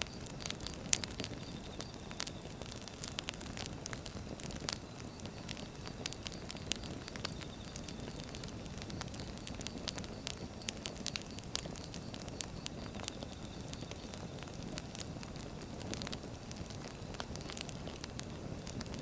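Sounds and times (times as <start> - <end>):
logs popping and crackling: 0.0 - 19.0
wood fire rumbling: 0.0 - 19.0.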